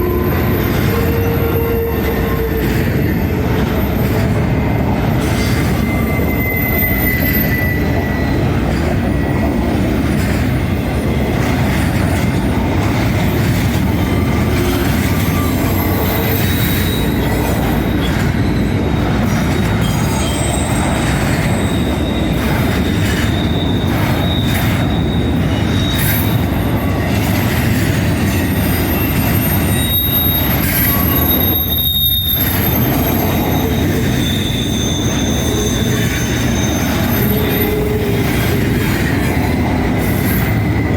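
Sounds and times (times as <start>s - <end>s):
freight train cars rumbling: 0.0s - 40.9s
wheels squealing on rails: 0.0s - 40.9s.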